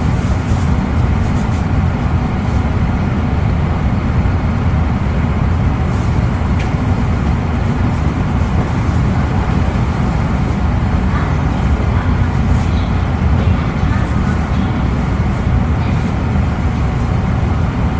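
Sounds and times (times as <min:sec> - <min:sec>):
train wheels rumbling on track: 0:00.0 - 0:17.9.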